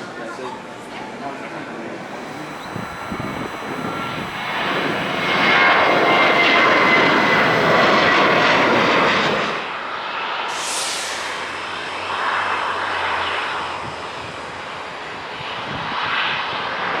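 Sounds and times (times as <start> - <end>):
jet engines rushing and whining: 1.9 - 17.0.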